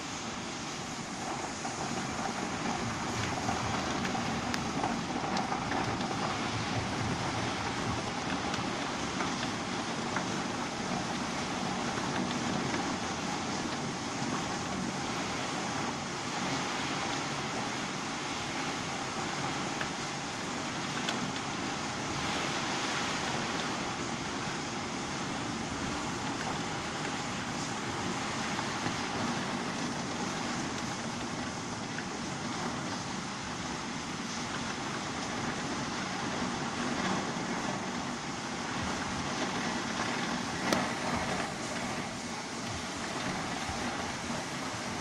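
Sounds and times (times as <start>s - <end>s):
car tyres swishing through water: 0.0s - 45.0s
heavy rain pouring: 0.0s - 45.0s
raindrops ticking close by: 0.0s - 45.0s.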